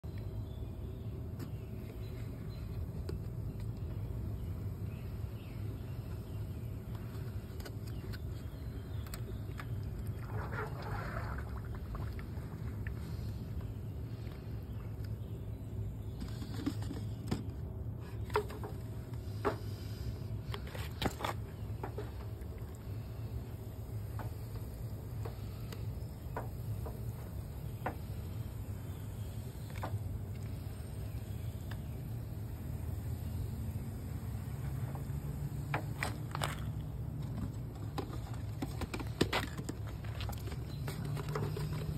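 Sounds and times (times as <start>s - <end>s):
low background rumble: 0.0s - 41.9s.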